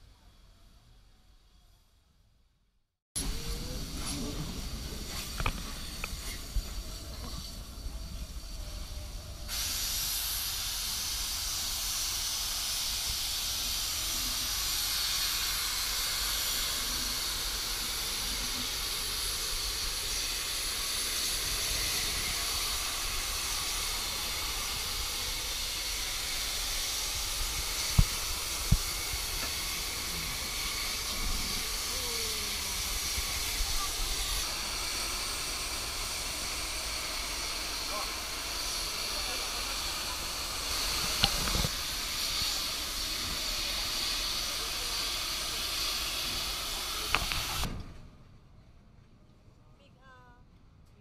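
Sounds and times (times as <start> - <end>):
steam locomotive hissing: 3.2 - 47.8.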